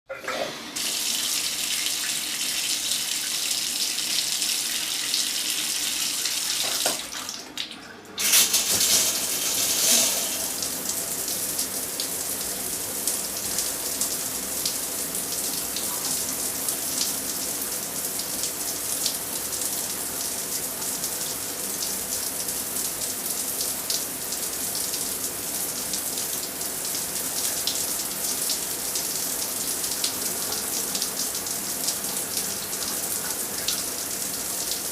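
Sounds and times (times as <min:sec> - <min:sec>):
shower spraying water: 0:00.5 - 0:07.4, 0:08.2 - 0:34.9.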